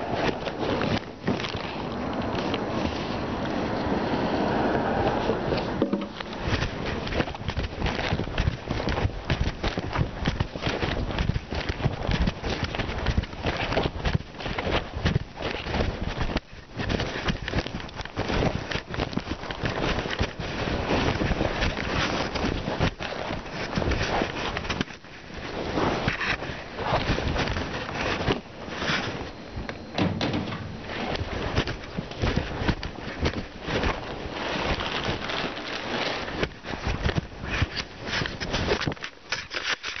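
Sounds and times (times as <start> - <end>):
camera microphone handling rustles: 0.0 - 4.0, 5.1 - 40.0.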